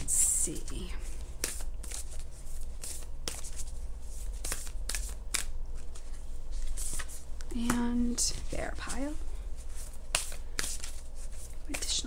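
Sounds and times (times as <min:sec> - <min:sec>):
cards being shuffled: 0:00.6 - 0:12.0.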